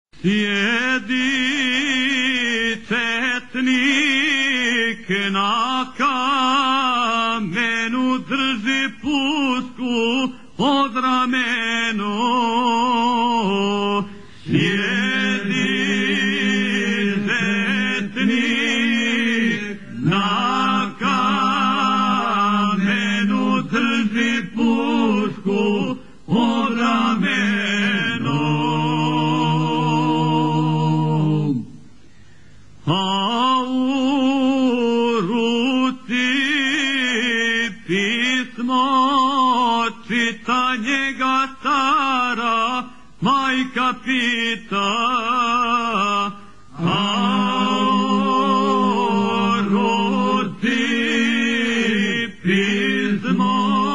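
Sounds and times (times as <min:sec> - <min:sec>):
men singing unaccompanied: 0:00.2 - 0:31.7, 0:32.9 - 0:53.9.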